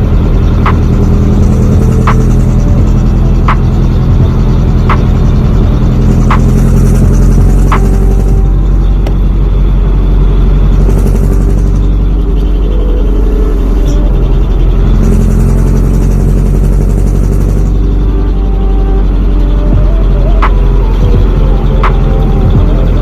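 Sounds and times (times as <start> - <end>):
diesel truck engine running: 0.0 - 23.0.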